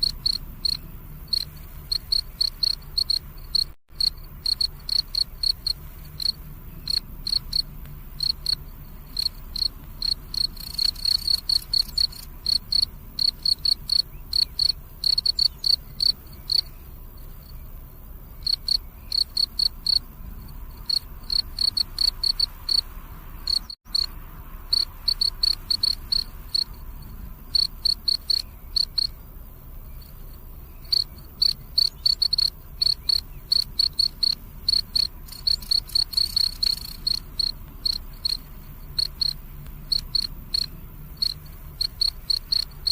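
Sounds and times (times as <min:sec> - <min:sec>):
cricket chirping: 0:00.0 - 0:42.9.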